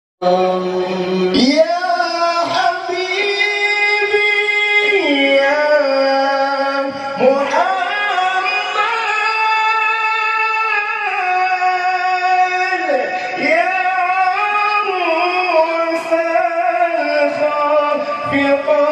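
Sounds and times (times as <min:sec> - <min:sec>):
man singing into a microphone: 0:00.2 - 0:18.9.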